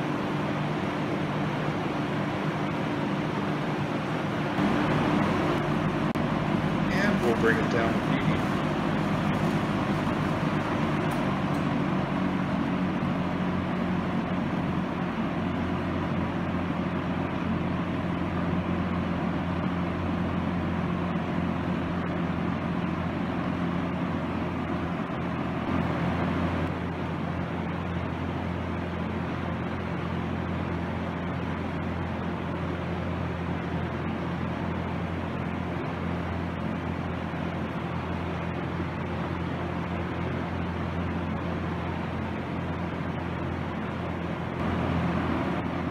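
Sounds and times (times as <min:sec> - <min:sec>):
box fan rushing air: 0:00.0 - 0:45.9
low motor hum: 0:00.0 - 0:45.9.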